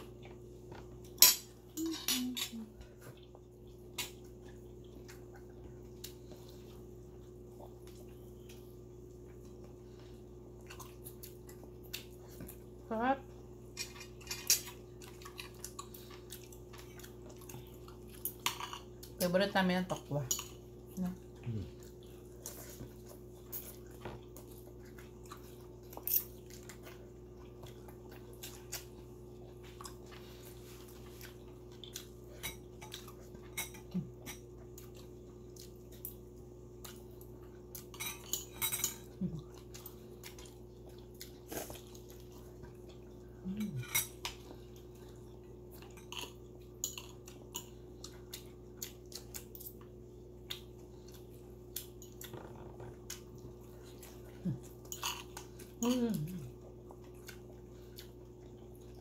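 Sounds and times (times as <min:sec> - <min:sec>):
chewing: 0:02.8 - 0:12.8, 0:13.4 - 0:19.2, 0:20.4 - 0:59.0.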